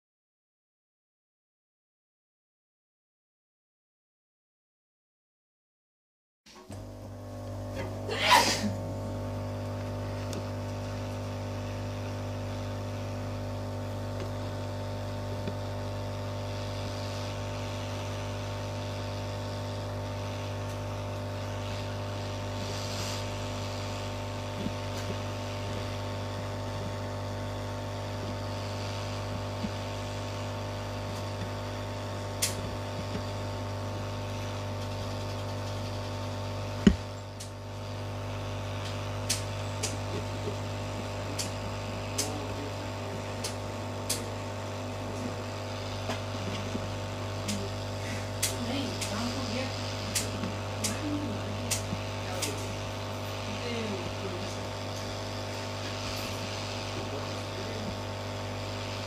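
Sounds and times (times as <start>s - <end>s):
heat gun blower humming: 6.6s - 59.0s.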